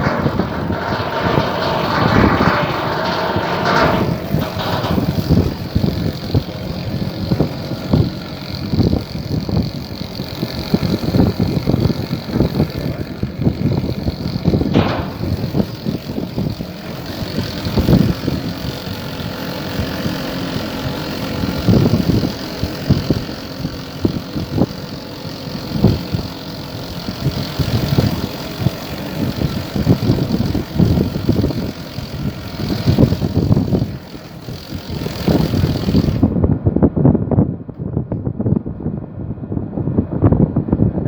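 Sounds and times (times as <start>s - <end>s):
ship engine humming: 0.0s - 36.7s
wind buffeting microphone: 0.0s - 41.0s.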